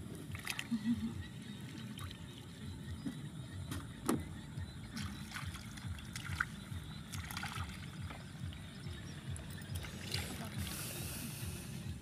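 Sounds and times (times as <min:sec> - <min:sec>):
muddy water splashing: 0:00.0 - 0:03.2, 0:04.8 - 0:11.7.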